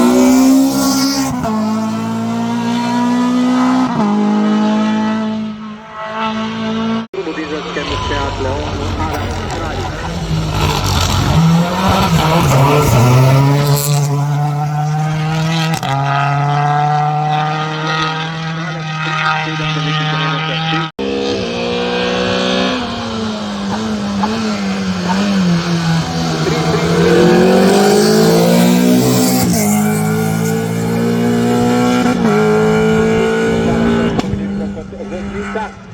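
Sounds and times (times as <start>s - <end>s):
race car engines revving high: 0.0s - 35.9s.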